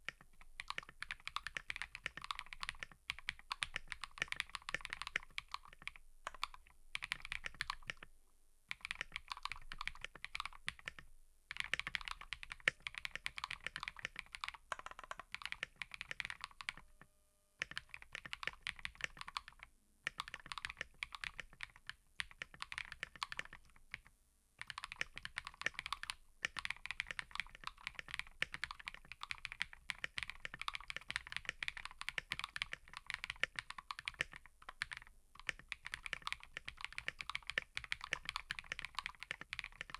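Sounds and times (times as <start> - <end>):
mechanical keyboard typing: 0.0 - 8.1, 8.7 - 17.0, 17.6 - 39.9.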